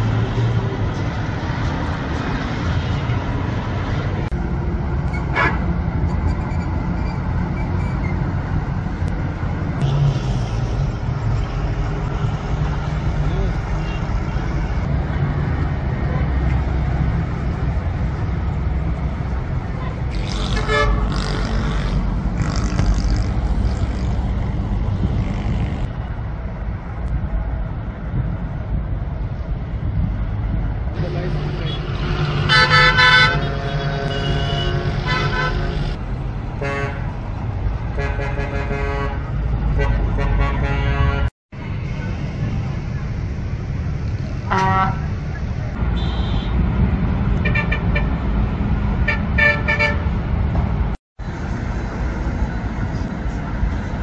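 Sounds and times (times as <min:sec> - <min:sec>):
diesel engine rumbling: 0:00.0 - 0:54.0
traffic noise: 0:00.0 - 0:54.0.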